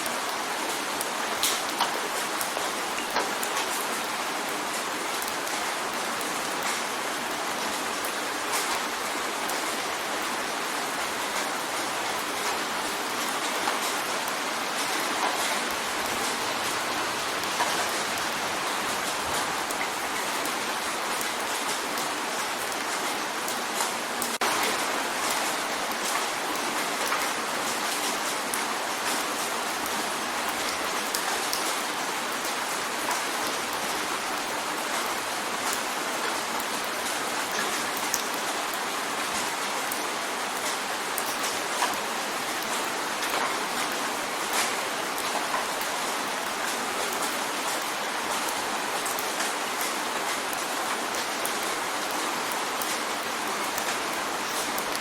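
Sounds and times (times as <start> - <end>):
rain drumming on a window: 0.0 - 55.0.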